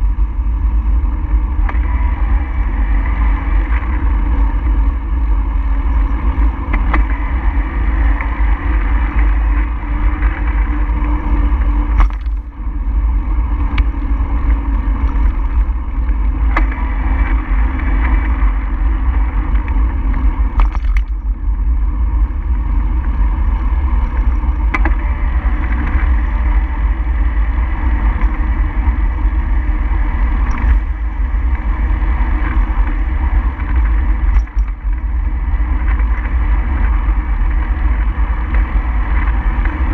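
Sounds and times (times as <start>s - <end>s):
road noise hiss: 0.0s - 39.9s
wind buffeting microphone: 0.0s - 39.9s.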